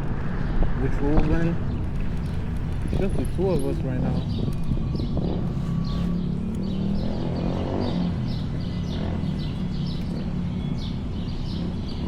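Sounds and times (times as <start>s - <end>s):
electric scooter riding rumble: 0.0s - 12.0s
high bird chirps: 1.7s - 12.0s.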